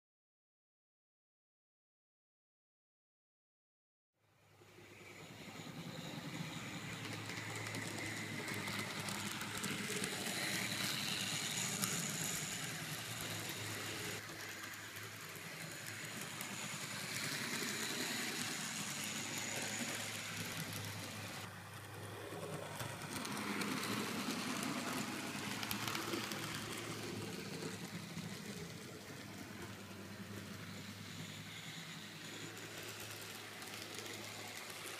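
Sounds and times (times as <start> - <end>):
model train motor: 4.5 - 34.9
wheels on rails: 4.6 - 34.9.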